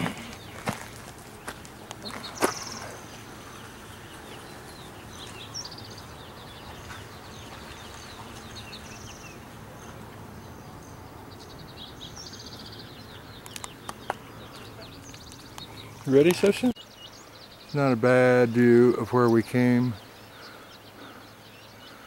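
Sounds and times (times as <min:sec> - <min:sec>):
low background noise: 0:00.0 - 0:22.0
songbirds chirping: 0:00.0 - 0:22.0.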